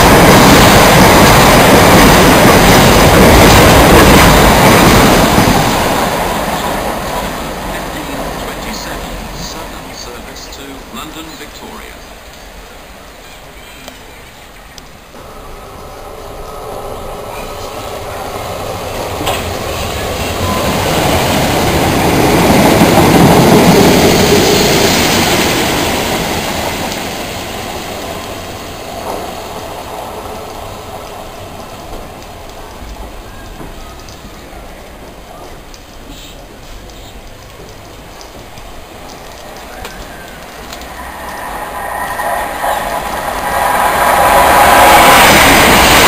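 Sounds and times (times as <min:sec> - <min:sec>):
passenger train passing: 0:00.0 - 0:46.0.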